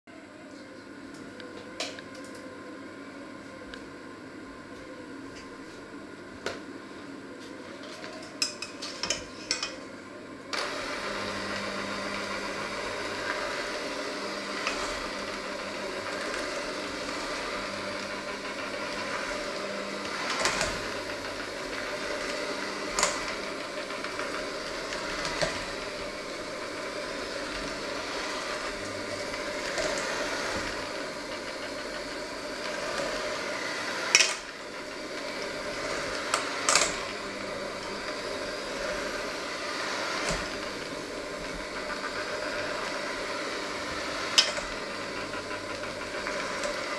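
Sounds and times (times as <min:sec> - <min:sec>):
electric hand mixer kneading dough: 0:00.3 - 0:46.9.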